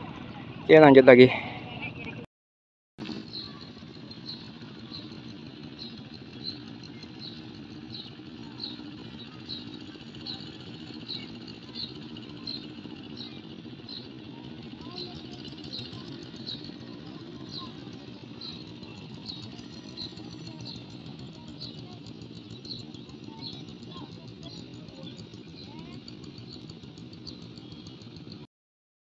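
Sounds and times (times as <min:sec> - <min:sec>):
low engine hum: 0:03.0 - 0:28.5.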